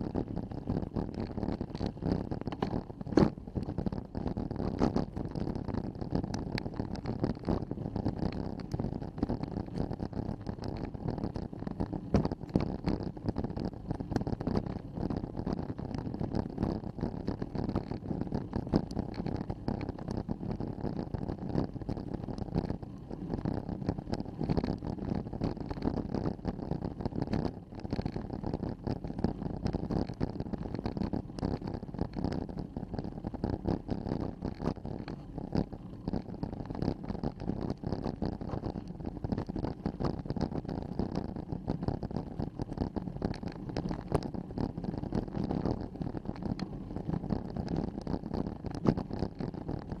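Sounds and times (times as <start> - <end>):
bike tyres rumbling and crackling: 0.0 - 50.0.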